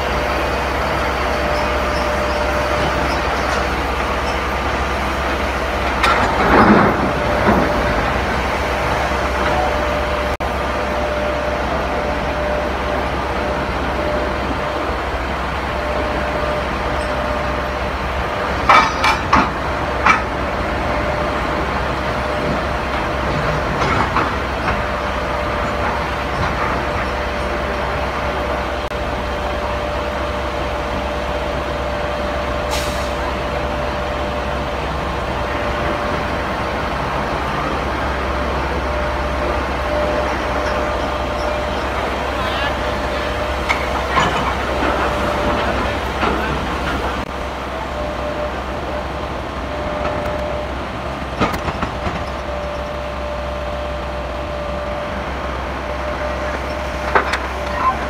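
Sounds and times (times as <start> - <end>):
heavy machine hum with whine: 0.0 - 58.0.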